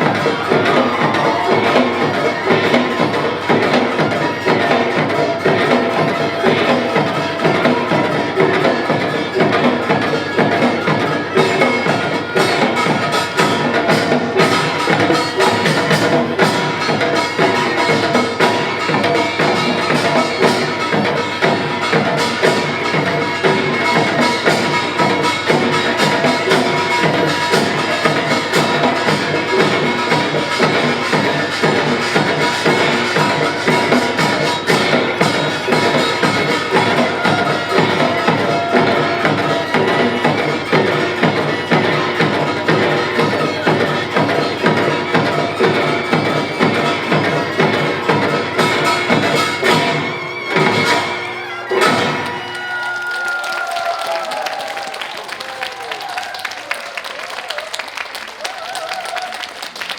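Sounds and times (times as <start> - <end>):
percussion ensemble drums: 0.0 - 59.9.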